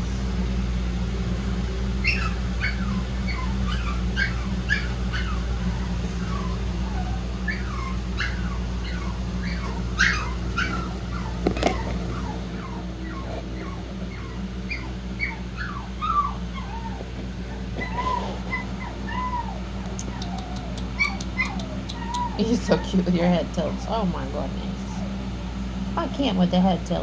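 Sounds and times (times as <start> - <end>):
puppies whimpering and squeaking: 0.0 - 25.3
steady low hum: 0.0 - 27.0.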